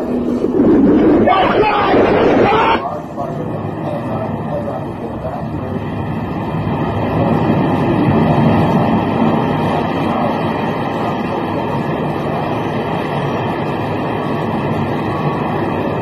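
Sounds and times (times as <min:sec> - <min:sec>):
building collapse rumble: 0:00.0 - 0:16.0.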